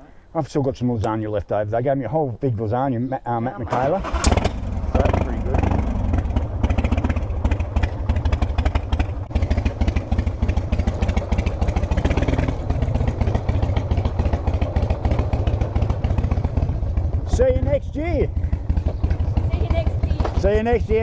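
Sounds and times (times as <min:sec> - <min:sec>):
motorcycle engine idling: 0:04.0 - 0:21.0.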